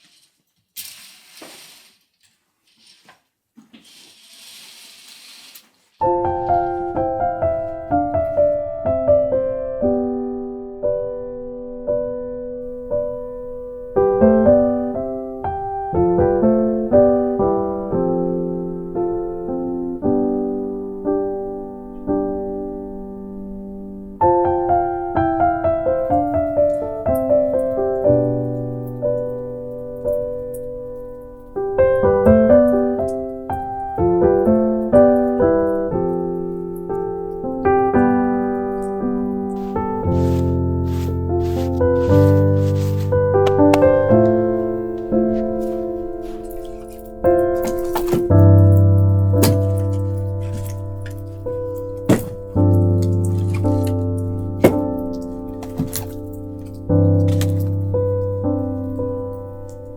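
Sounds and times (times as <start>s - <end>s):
gentle solo piano music: 6.0s - 59.9s.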